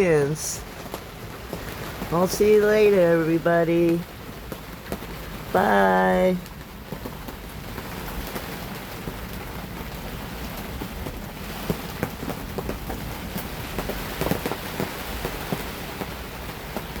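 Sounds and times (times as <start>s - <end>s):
heavy rain hissing: 0.0s - 17.0s
raindrops striking close by: 0.0s - 17.0s.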